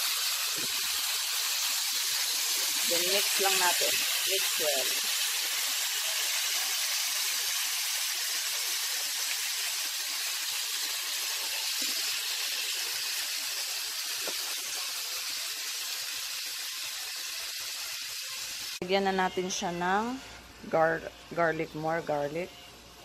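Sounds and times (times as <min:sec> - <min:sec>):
chicken sizzling in a frying pan: 0:00.0 - 0:18.8.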